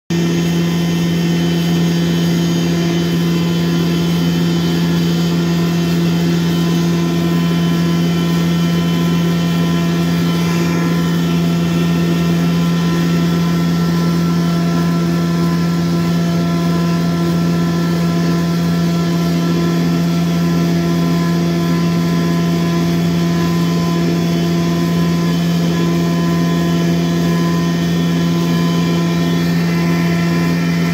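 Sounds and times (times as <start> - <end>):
electric mill motor hum: 0.1 - 30.9.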